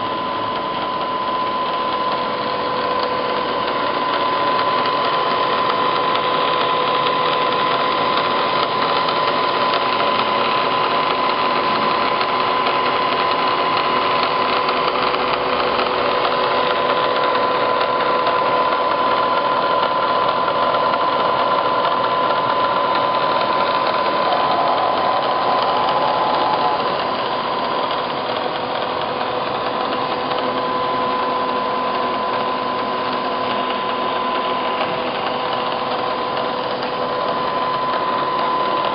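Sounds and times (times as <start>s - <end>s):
milling machine whirring: 0.0s - 38.9s.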